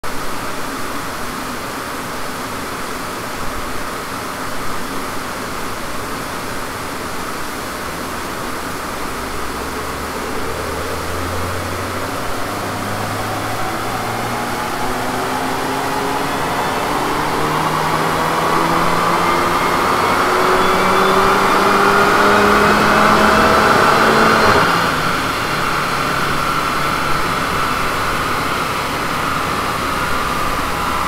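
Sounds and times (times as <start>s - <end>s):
fan-like rush: 5.0s - 31.0s
car engine under full load: 5.8s - 31.0s.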